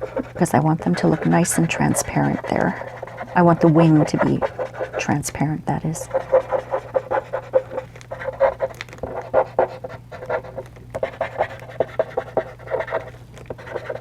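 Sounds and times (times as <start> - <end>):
eraser rubbing on paper: 0.0 - 5.2, 6.0 - 14.0.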